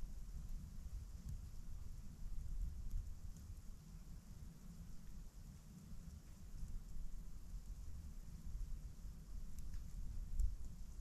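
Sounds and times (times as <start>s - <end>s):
faint high hiss: 0.0s - 11.0s
faint ticks: 0.0s - 11.0s
wind rumbling in gusts: 0.0s - 11.0s.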